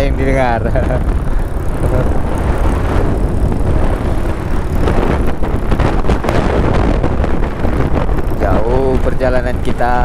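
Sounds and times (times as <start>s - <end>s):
motorcycle engine and road noise: 0.0s - 10.0s
wind buffeting microphone: 0.0s - 10.0s.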